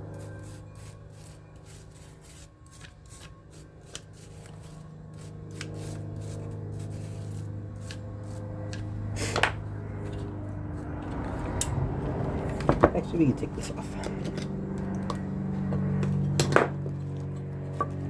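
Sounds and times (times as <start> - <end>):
fan motor parts clicking and rattling: 0.0 - 18.0
steady low hum: 0.0 - 18.0.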